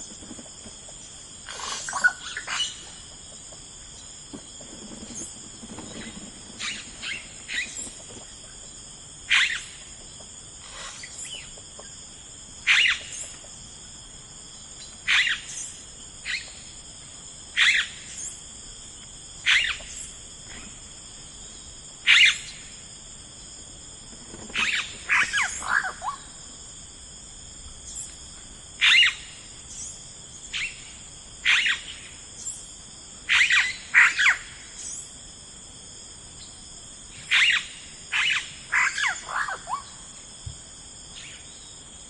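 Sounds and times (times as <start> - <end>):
crickets chorus: 0.0 - 42.0.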